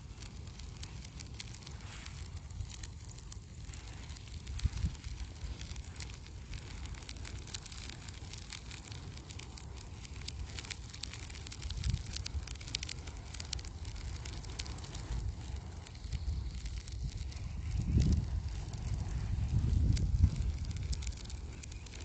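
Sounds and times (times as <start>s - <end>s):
fire crackling and popping: 0.0s - 22.0s
low rumble of fire: 0.0s - 22.0s.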